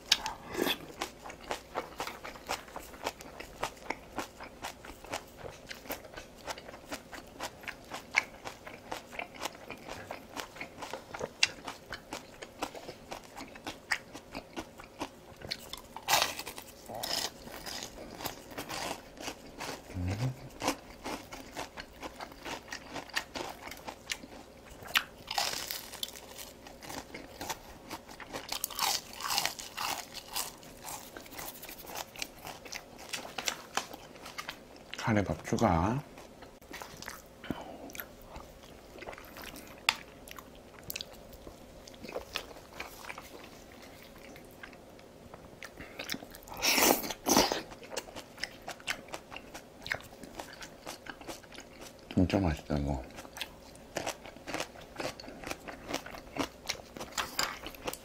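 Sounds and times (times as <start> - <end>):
crunching and chewing fried food: 0.0 - 58.0.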